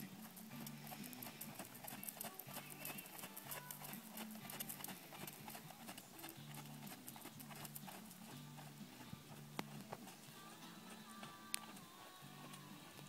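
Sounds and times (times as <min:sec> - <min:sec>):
horse hoofbeats trotting on sand: 0:00.0 - 0:13.0
quiet background music: 0:00.0 - 0:13.0.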